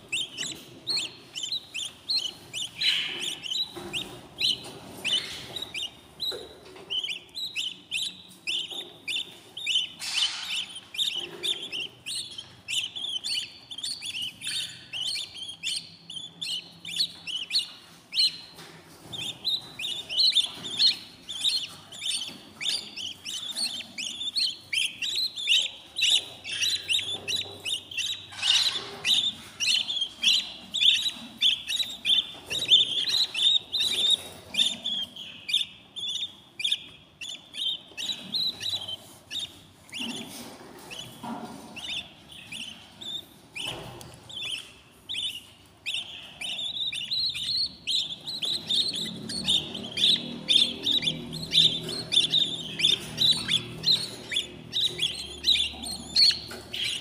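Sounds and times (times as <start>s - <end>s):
budgie chicks chirping: 0.0s - 57.0s.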